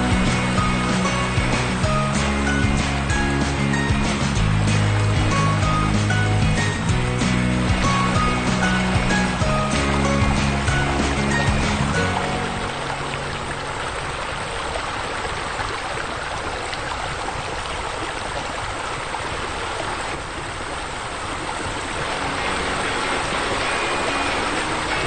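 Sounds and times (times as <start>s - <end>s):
rushing splashing water: 0.0s - 25.0s.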